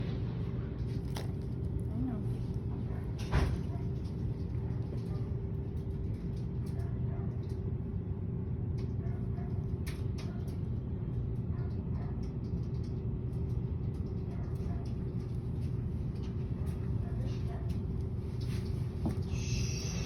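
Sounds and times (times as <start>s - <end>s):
constant hum: 0.0s - 20.0s
low background rumble: 0.0s - 20.0s.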